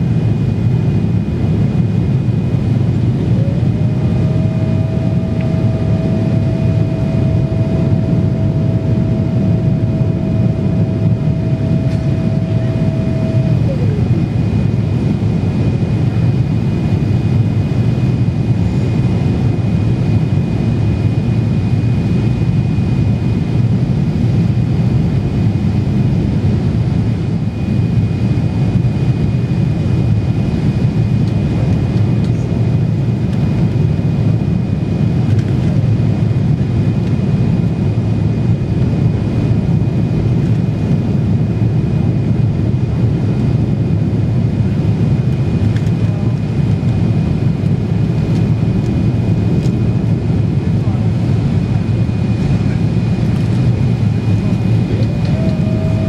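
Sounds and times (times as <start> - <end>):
airplane cabin rumble: 0.0 - 56.0
thin steady whine: 0.0 - 56.0.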